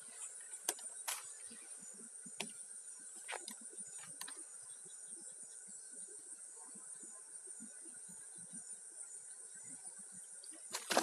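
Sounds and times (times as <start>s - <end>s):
cricket chorus: 0.0s - 11.0s.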